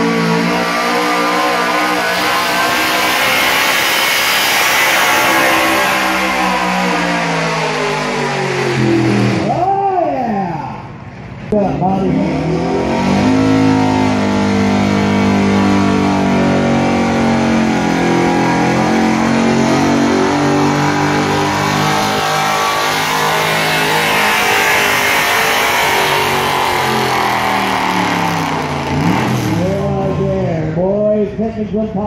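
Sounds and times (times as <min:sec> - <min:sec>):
truck engine at high revs: 0:00.0 - 0:09.6, 0:12.0 - 0:30.6.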